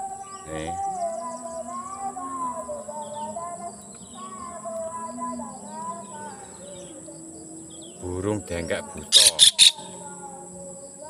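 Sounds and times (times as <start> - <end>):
high insect buzz: 0.0 - 11.0
person chanting over loudspeaker: 0.0 - 11.0.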